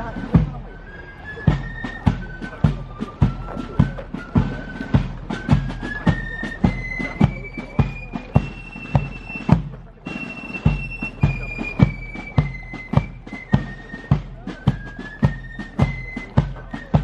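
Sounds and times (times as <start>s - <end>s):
steady drum beat: 0.0s - 0.7s, 1.5s - 17.0s.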